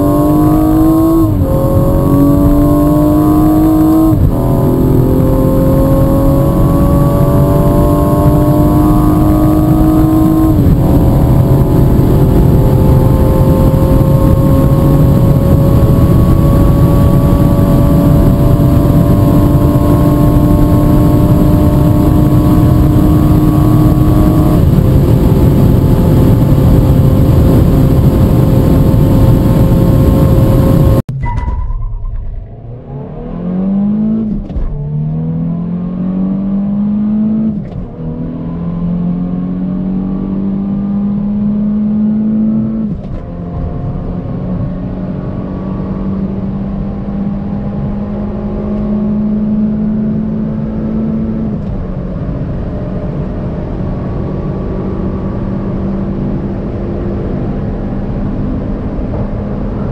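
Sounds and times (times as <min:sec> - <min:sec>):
car engine accelerating hard: 0:00.0 - 0:31.1, 0:32.4 - 0:59.9.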